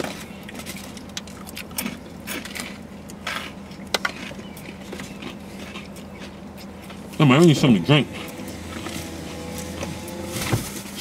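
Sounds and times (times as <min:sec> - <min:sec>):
crunchy chewing: 0:00.0 - 0:11.0
steady low hum: 0:00.0 - 0:11.0.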